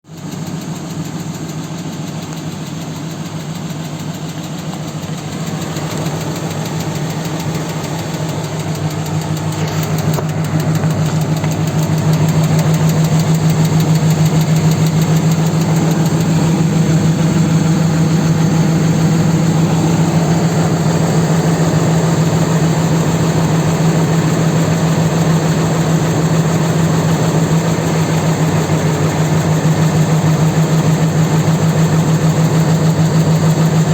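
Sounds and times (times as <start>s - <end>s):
engine idling with rapid knock: 0.0s - 33.9s.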